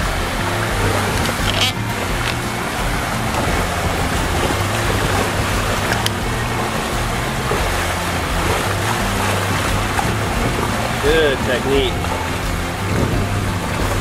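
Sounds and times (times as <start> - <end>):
background music: 0.0 - 14.0
water rushing past boat hull: 0.0 - 14.0
wind on microphone: 0.0 - 14.0.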